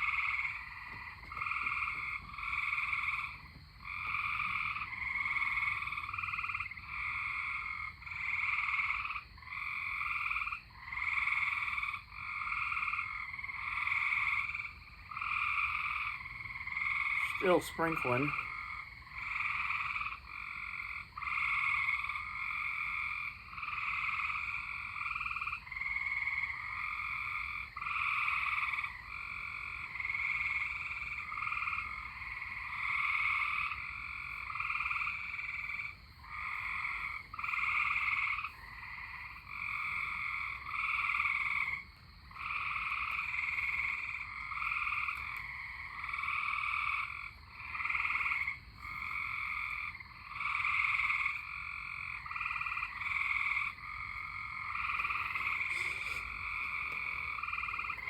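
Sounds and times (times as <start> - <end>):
chorus of frogs calling: 0.0 - 58.0.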